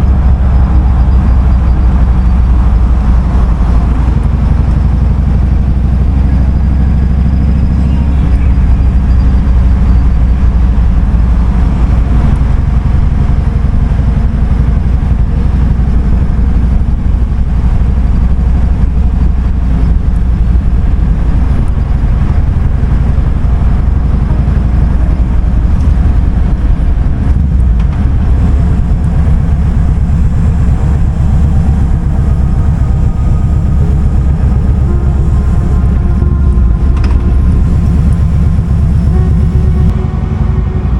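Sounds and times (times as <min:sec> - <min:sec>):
motorcycle engine idling low: 0:00.0 - 0:40.9.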